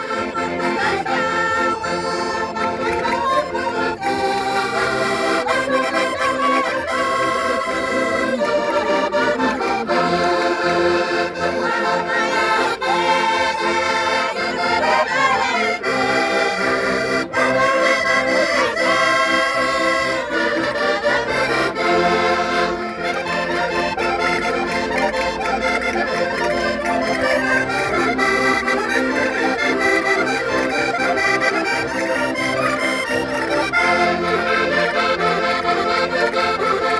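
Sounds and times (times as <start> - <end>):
concertinas playing folk tune: 0.0 - 36.9.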